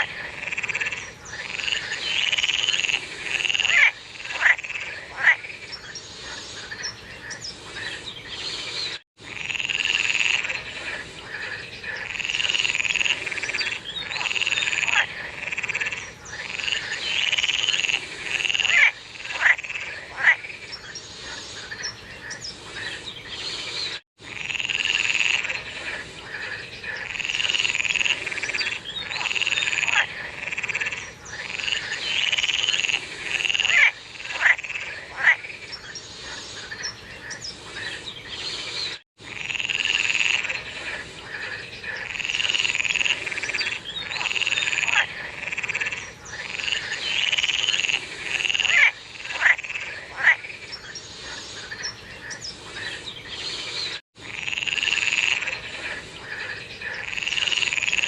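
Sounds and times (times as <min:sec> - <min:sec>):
sharp short frog calls: 0:00.0 - 0:07.4, 0:09.2 - 0:20.8, 0:24.2 - 0:36.9, 0:39.2 - 0:40.6, 0:41.3 - 0:51.9, 0:54.2 - 0:58.0
chorus of frogs croaking: 0:00.0 - 0:38.6, 0:39.2 - 0:58.0.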